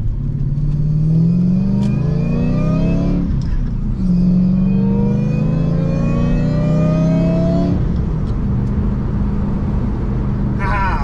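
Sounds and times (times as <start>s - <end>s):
car engine accelerating hard: 0.2s - 11.0s.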